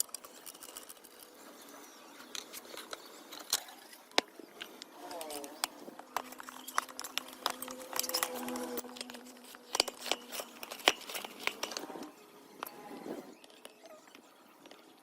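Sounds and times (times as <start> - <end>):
crinkling: 0.0 - 15.0.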